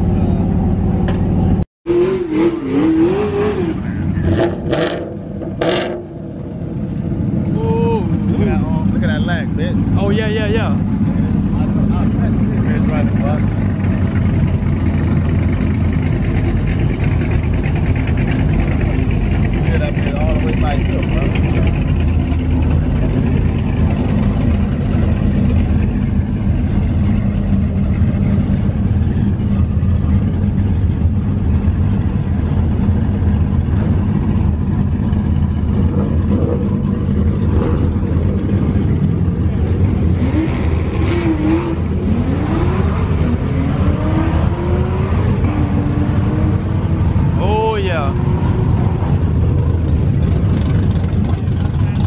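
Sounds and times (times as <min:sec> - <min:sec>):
car engines idling: 0:00.0 - 0:01.6, 0:03.7 - 0:52.0.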